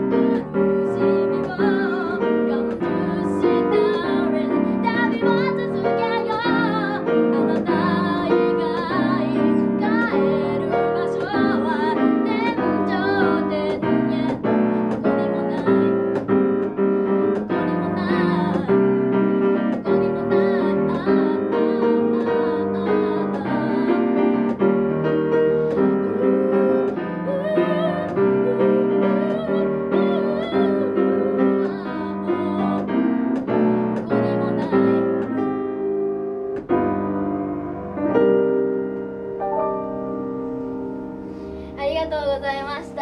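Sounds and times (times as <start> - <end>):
girl singing: 0.0 - 24.8, 25.4 - 36.0, 41.4 - 43.0
grand piano ballad: 0.0 - 43.0.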